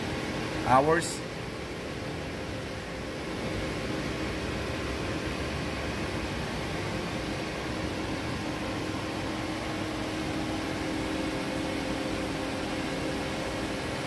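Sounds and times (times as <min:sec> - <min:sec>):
machine fan hum: 0:00.0 - 0:14.0.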